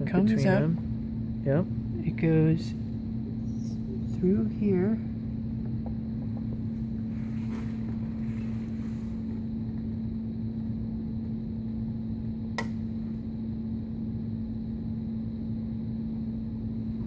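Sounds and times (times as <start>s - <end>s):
low electrical hum: 0.0s - 17.0s
room rumble: 0.0s - 17.0s.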